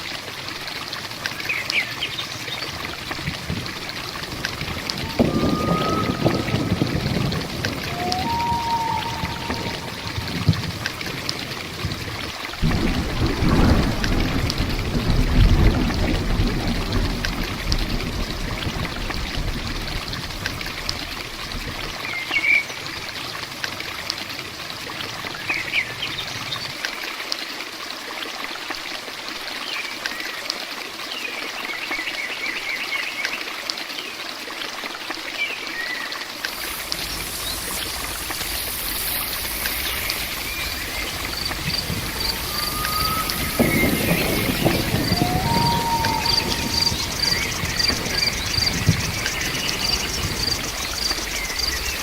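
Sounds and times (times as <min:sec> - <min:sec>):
rain: 0:00.0 - 0:52.0
trickling water: 0:00.0 - 0:52.0.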